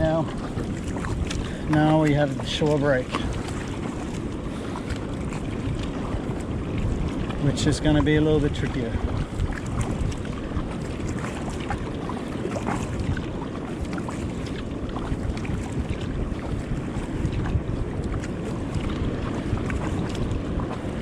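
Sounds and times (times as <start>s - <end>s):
rushing churning seawater: 0.0s - 21.0s
small water splashes: 0.0s - 21.0s
wind buffeting microphone: 0.0s - 21.0s.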